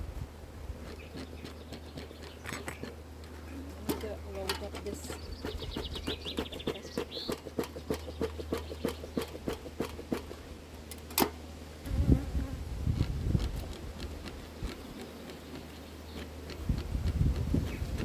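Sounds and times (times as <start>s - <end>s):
honeybees buzzing: 0.9s - 10.6s, 11.6s - 18.0s.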